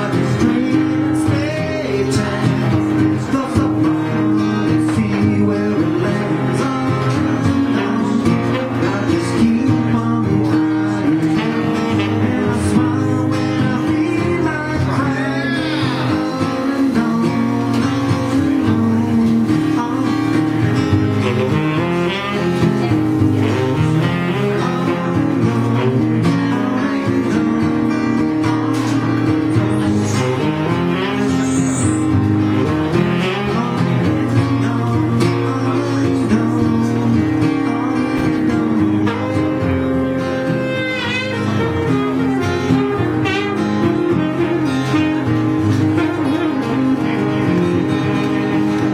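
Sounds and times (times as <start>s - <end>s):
acoustic guitar strumming: 0.0s - 48.9s
saxophone melody: 0.0s - 48.9s.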